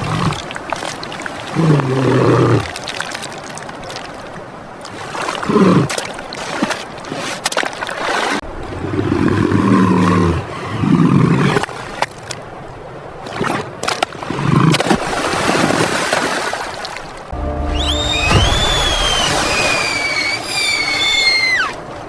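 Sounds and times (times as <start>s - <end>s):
moving water: 0.0s - 22.0s.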